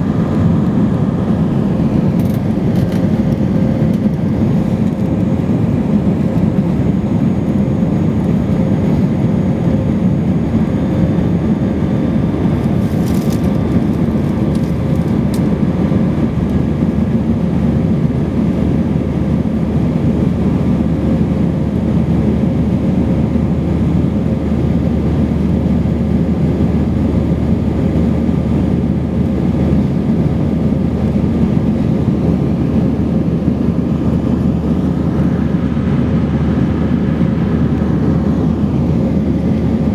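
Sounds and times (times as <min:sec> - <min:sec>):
aircraft cabin rumble: 0:00.0 - 0:39.9.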